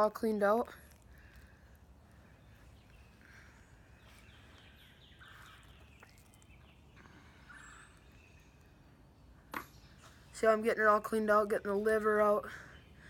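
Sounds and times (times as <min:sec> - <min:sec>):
distant bird calls: 0:00.9 - 0:13.0.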